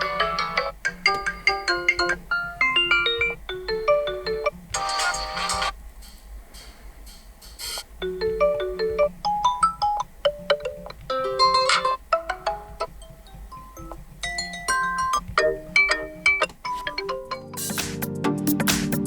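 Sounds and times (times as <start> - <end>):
phone ringtone melody: 0.0 - 5.7, 8.0 - 17.8.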